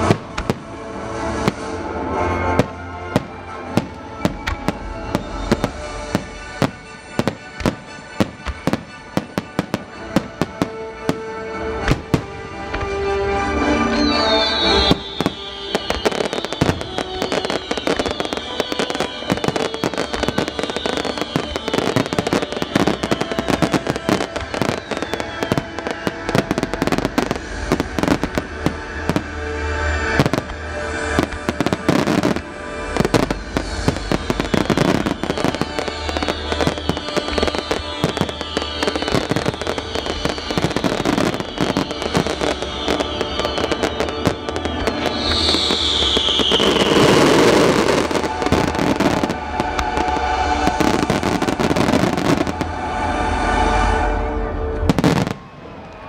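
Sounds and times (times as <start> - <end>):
fireworks bangs and crackles: 0.0 - 56.0
music playing: 0.0 - 56.0.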